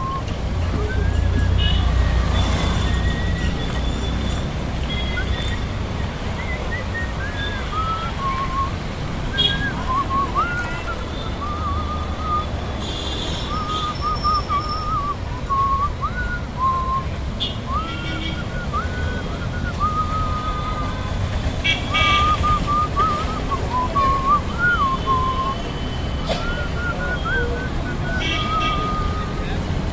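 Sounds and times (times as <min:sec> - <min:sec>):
person whistling a tune: 0:00.0 - 0:21.3, 0:21.9 - 0:29.8
road traffic rumble: 0:00.0 - 0:29.9.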